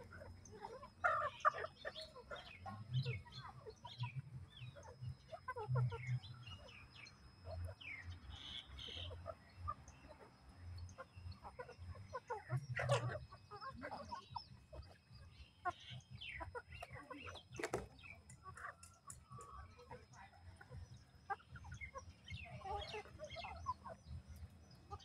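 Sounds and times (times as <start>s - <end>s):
young chickens clucking and peeping: 0.0s - 25.0s.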